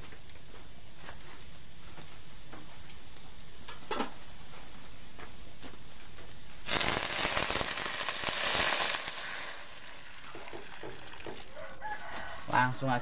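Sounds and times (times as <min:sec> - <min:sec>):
simmering hiss: 0:00.0 - 0:13.0
water sizzling in hot oil: 0:00.0 - 0:13.0.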